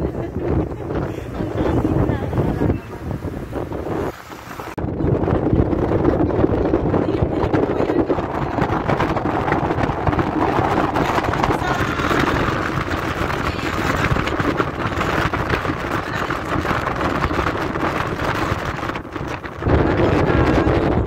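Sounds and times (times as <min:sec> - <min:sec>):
vehicle road and engine noise: 0:00.0 - 0:21.0
wind buffeting microphone: 0:00.0 - 0:21.0.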